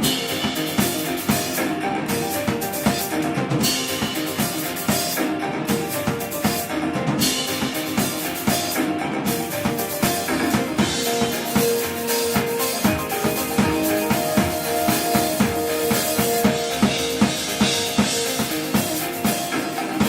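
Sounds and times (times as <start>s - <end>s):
kick and snare drum beat: 0.0s - 20.0s
live band playing: 0.0s - 20.0s.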